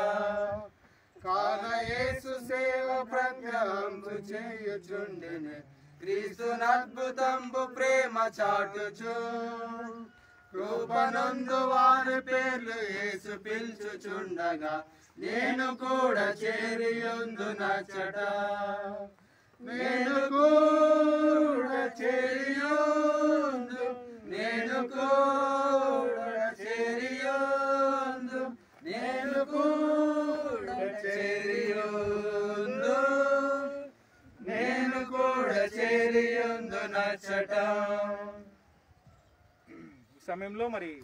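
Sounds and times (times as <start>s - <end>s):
group singing a hymn unaccompanied: 0.0s - 38.6s.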